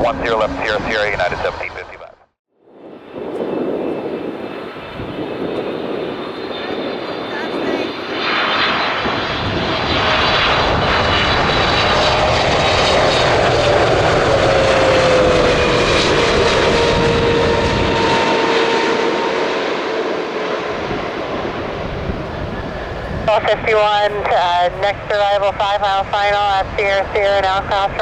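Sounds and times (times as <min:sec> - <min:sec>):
jet whine falling in pitch: 0:00.0 - 0:02.1, 0:02.8 - 0:25.9
jet plane passing: 0:00.0 - 0:28.0.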